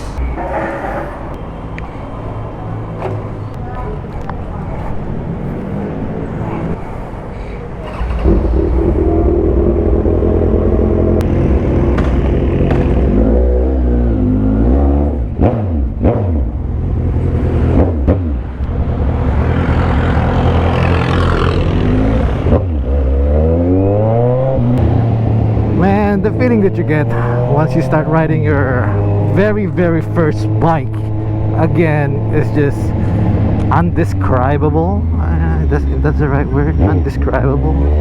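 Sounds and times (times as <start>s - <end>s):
motorcycle engine revving: 2.5s - 38.0s.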